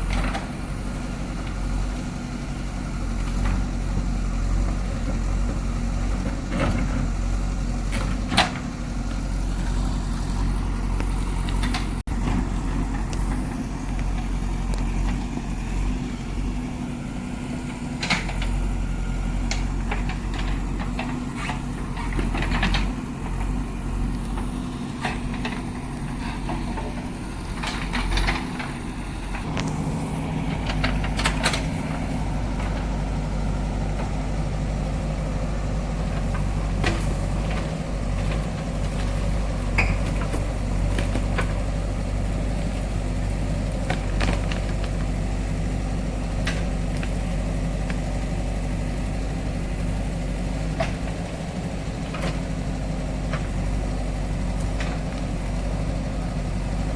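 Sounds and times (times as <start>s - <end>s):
backhoe diesel engine running: 0.0s - 56.9s.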